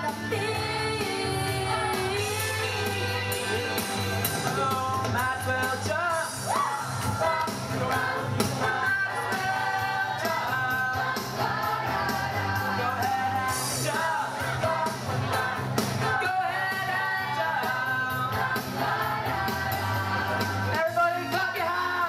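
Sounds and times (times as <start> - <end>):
accompaniment with bass and beat: 0.0 - 22.0
choir singing a pop song: 0.0 - 22.0.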